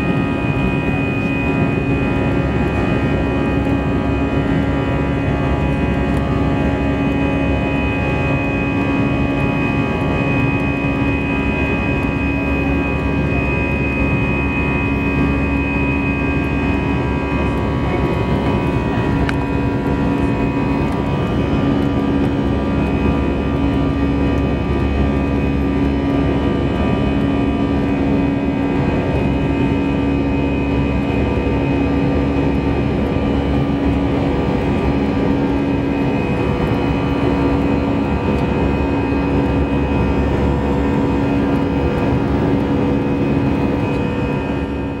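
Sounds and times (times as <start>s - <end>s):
jet engine drone: 0.0s - 45.0s.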